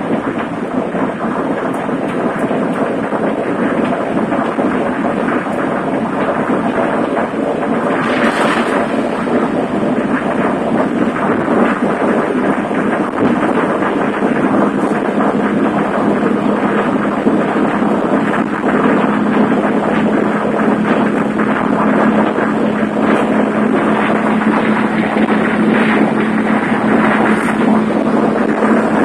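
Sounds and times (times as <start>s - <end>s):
car engine drone: 0.0s - 29.0s
wind and road noise: 0.0s - 29.0s.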